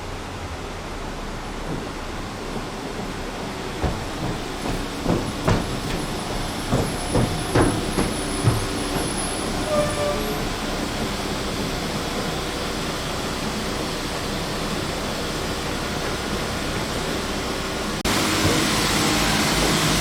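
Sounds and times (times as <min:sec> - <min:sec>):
train rumble: 0:00.0 - 0:20.0
train wheels clicking on rail joints: 0:01.0 - 0:20.0.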